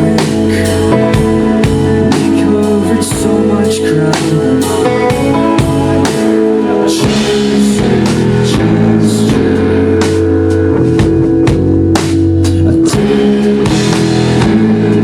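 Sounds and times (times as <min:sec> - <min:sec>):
drum kit beat: 0:00.0 - 0:15.0
electric guitar chords: 0:00.0 - 0:15.0.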